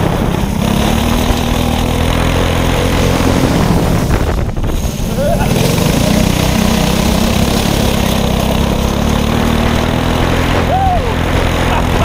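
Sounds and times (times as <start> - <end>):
go-kart engine running hard: 0.0 - 12.0.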